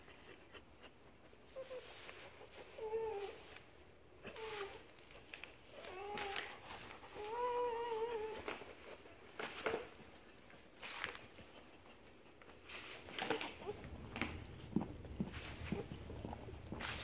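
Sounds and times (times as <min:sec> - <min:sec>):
puppy whining: 0:00.0 - 0:03.6, 0:04.2 - 0:17.0
dog licking and rustling: 0:00.2 - 0:17.0.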